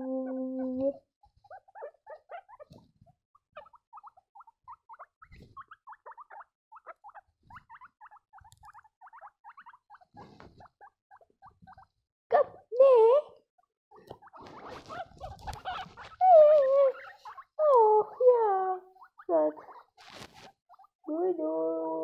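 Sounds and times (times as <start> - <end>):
guinea pigs squeaking: 0.0 - 12.0, 13.6 - 22.0.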